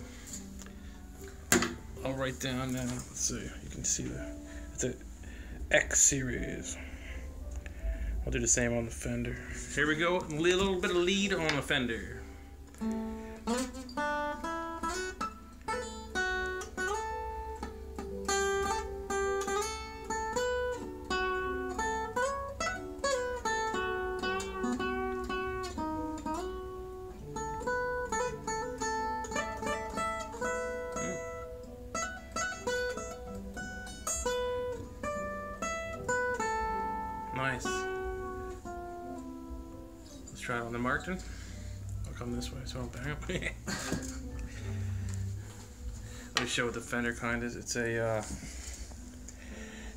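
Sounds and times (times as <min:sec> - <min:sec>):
acoustic guitar plucked melody: 0:00.0 - 0:49.9.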